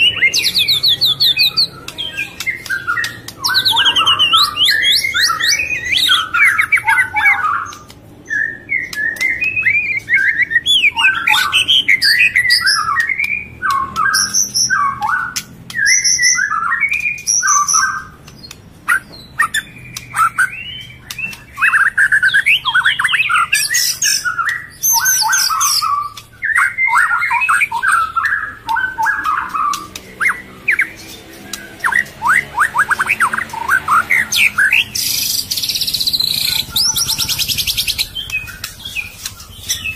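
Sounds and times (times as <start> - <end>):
songbirds squawking and chirping: 0.0 - 39.9.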